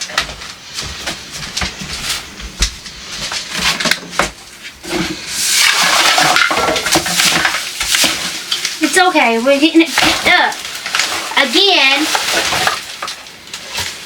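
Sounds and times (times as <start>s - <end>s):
kitchen items clattering: 0.0s - 14.0s.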